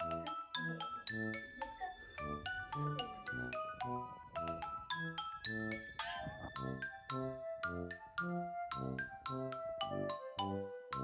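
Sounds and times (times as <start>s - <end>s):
light tune with ringing notes: 0.0s - 11.0s.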